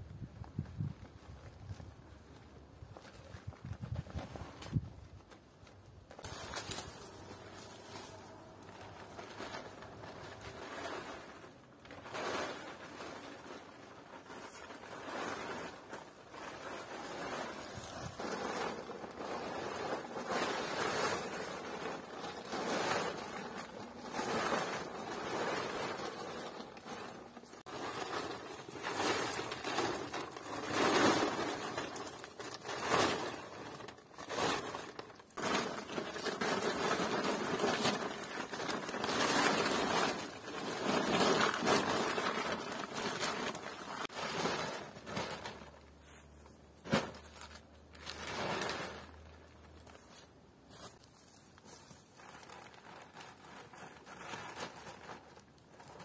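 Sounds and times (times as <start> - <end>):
rustling and scraping: 0.1 - 56.0.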